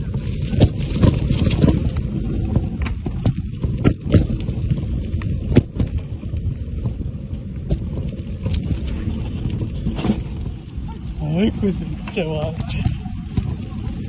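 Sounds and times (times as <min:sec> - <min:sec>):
bike knocking and rattling: 0:00.0 - 0:14.0
bike tyres rumbling on dirt: 0:00.0 - 0:14.0.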